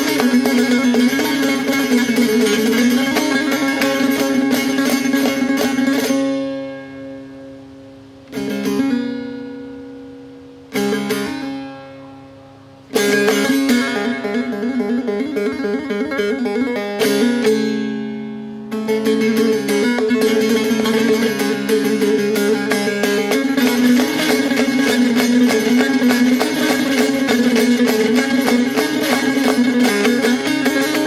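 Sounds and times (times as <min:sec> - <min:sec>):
plucked string instrument strumming: 0:00.0 - 0:31.0.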